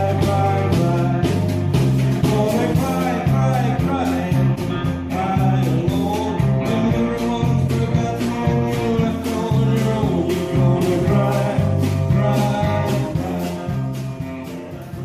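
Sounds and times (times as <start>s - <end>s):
driving drum beat: 0.0s - 15.0s
live band playing country rock: 0.0s - 15.0s.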